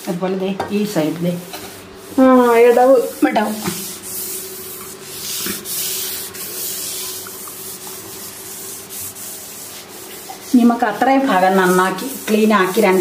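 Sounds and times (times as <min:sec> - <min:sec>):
sponge scrubbing a counter: 0:00.8 - 0:13.0.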